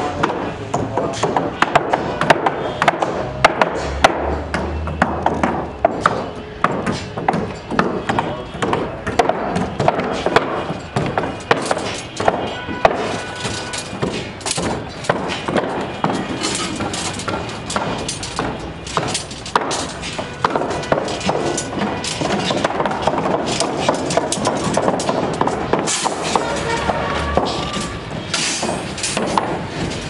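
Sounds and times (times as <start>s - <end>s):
steel bars clanking: 0.0s - 30.0s
hammer knocks on wooden planks: 0.2s - 30.0s.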